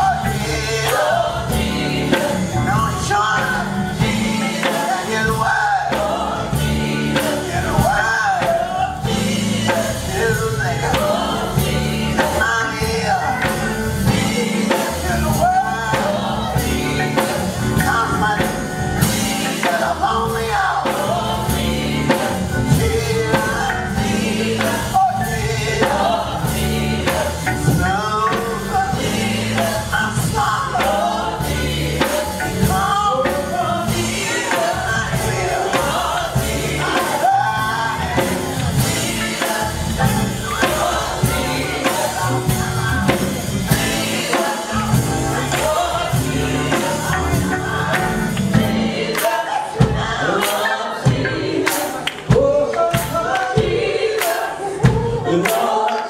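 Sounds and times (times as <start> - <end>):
choir singing gospel song: 0.0 - 56.0.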